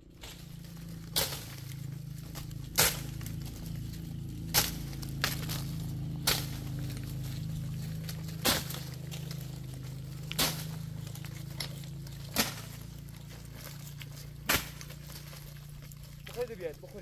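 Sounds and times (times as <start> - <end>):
pole whacking tree branches: 0.0 - 15.7
low steady hum: 0.0 - 17.0.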